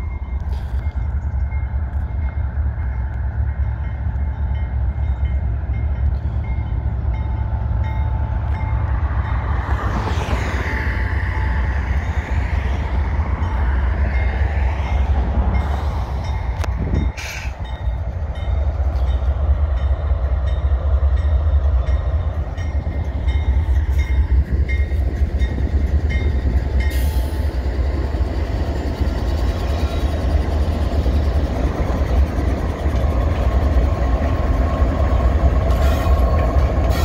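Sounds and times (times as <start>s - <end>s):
freight train rumbling past: 0.0s - 37.0s.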